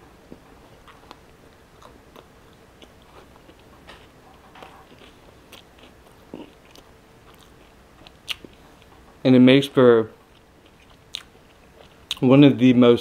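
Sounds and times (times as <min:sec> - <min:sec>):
person chewing sandwich: 0:00.3 - 0:09.1, 0:10.2 - 0:12.2.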